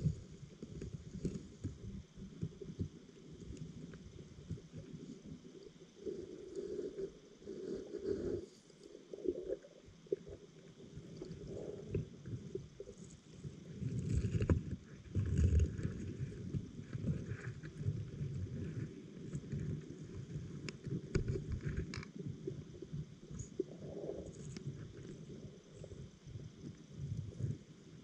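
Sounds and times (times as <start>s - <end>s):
muffled underwater rumble: 0.0s - 28.0s.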